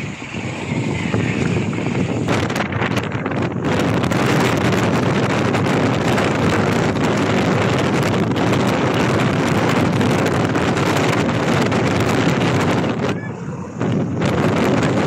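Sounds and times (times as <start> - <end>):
road noise: 0.0 - 15.0
wind rushing over microphone: 0.0 - 15.0.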